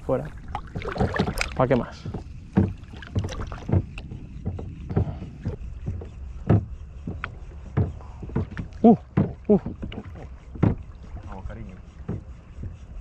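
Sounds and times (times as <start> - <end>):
waves lapping against kayak hull: 0.0 - 13.0
wind rumbling on microphone: 0.0 - 13.0.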